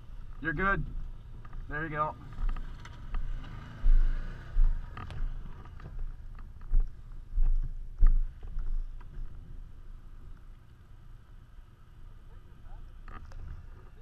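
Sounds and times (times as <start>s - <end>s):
faint engine running: 0.0s - 14.0s.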